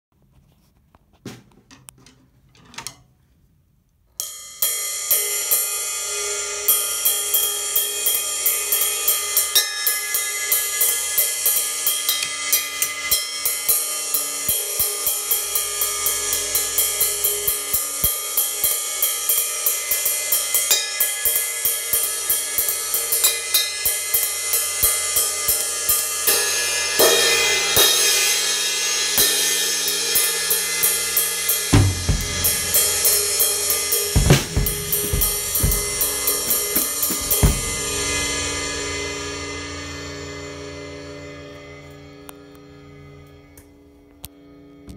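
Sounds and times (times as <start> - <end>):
ride cymbal struck with stick: 4.2 - 41.2.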